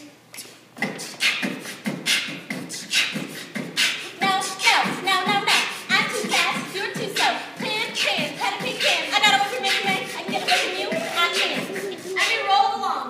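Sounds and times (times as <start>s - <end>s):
beatboxing percussion: 0.0s - 12.5s
sung melodic vocal sounds: 0.0s - 13.0s.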